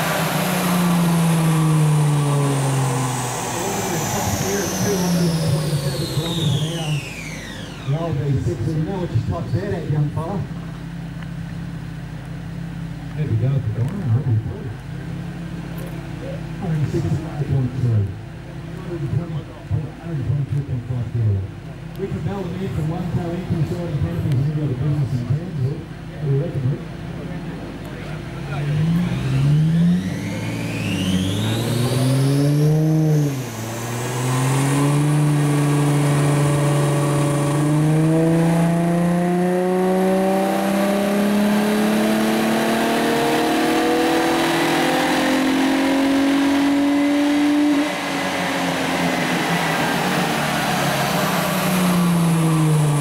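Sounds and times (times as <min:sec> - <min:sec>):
car engine revving under load: 0:00.0 - 0:53.0.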